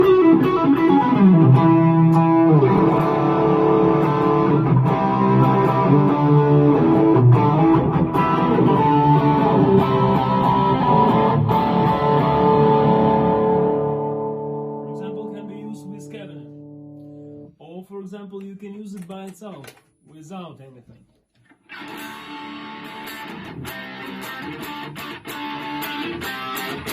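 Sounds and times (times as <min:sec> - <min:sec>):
electric guitar notes and chords: 0:00.0 - 0:17.5, 0:21.6 - 0:26.9.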